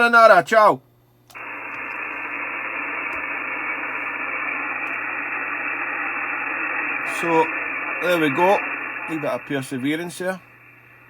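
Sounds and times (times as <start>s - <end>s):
radio receiver hiss: 1.3s - 11.0s.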